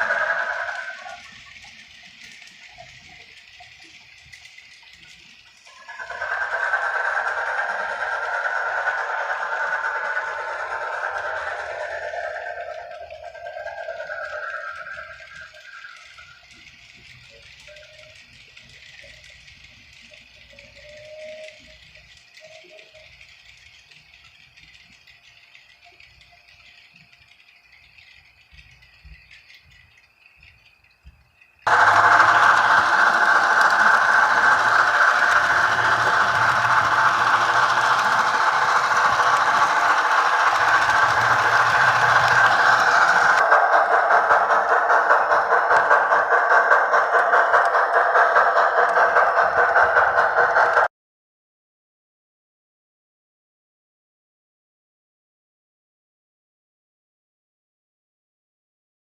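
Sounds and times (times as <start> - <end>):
steam locomotive hiss with rattling: 0.0 - 50.9.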